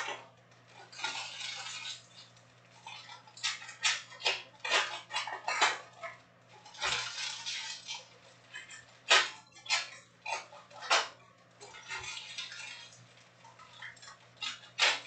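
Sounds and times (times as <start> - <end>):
foil wrappers crinkling and tearing: 0.7 - 15.0.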